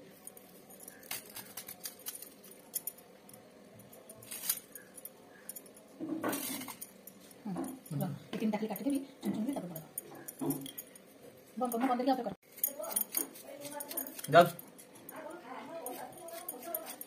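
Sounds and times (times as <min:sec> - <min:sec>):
bangles jingling: 0:00.0 - 0:17.0.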